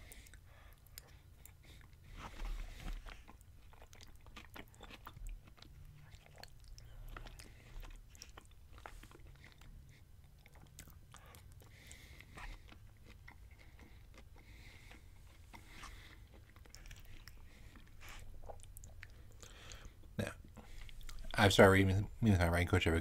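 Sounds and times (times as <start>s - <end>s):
faint chewing: 0.0s - 21.8s.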